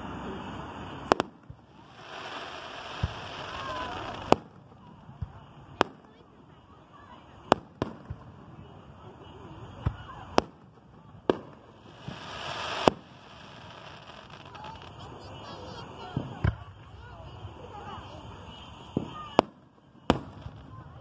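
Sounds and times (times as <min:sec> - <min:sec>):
firework hiss: 0:00.0 - 0:21.0
fireworks bangs: 0:00.0 - 0:21.0.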